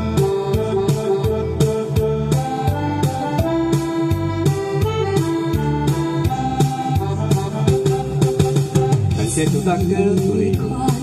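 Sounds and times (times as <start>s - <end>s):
instrumental pop ballad backing track: 0.0s - 11.0s.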